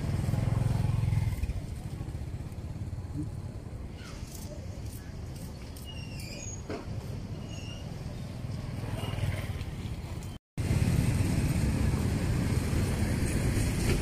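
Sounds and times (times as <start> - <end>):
motorbike and street traffic rumble: 0.0 - 14.0.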